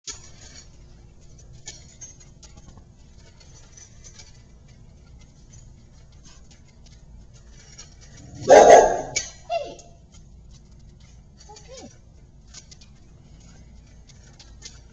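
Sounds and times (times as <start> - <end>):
puppy crunching kibble: 1.0 - 14.9.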